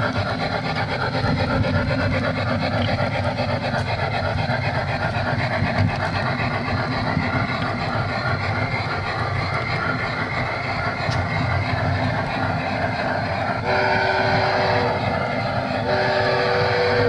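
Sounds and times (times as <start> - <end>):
model train wheels rumbling on rails: 0.0 - 17.0.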